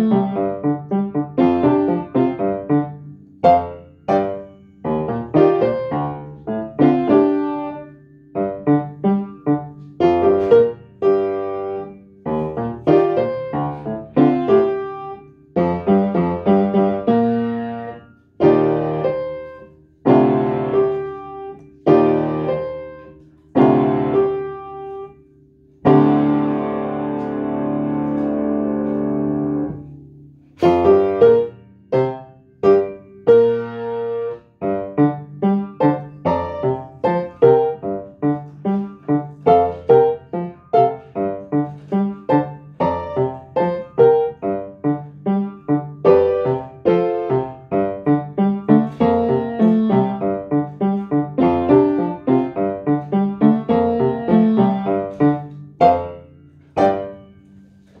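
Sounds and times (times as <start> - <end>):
upright piano playing: 0.0 - 58.0.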